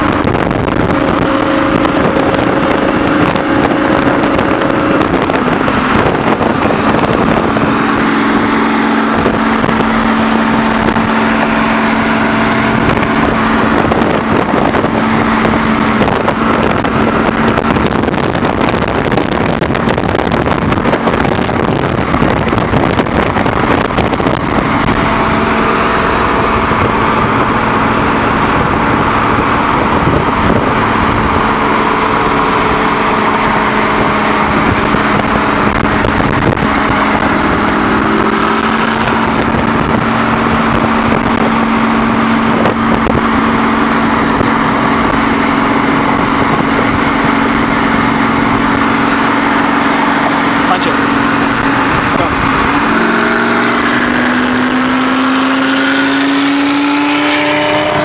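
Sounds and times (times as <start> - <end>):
road and wind noise: 0.0 - 58.0
sports car exhaust droning: 0.0 - 58.0.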